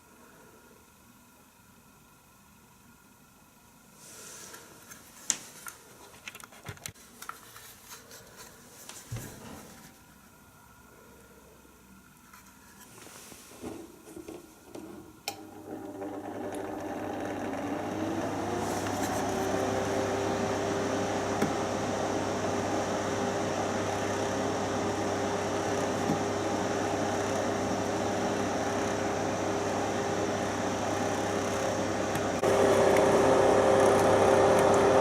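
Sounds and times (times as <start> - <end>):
fan heater whirring: 0.0 - 35.0.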